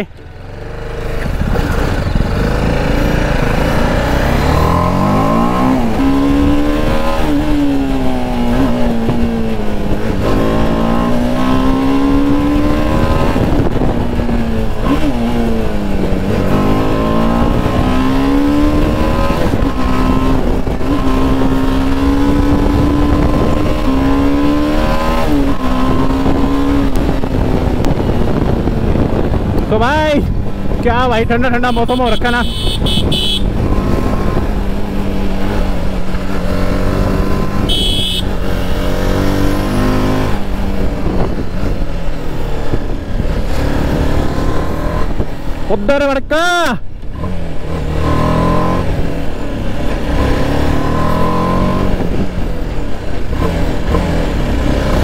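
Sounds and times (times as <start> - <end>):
motorcycle engine accelerating: 0.0 - 46.0, 46.9 - 55.0.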